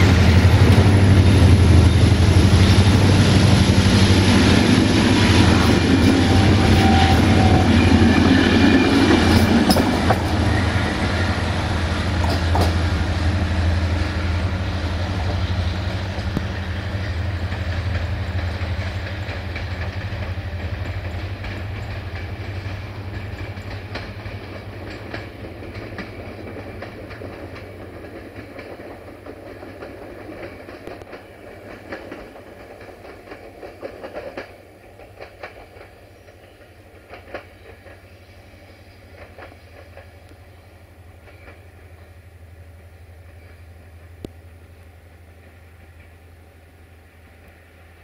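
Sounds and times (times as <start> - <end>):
train rolling rumble: 0.0 - 48.0.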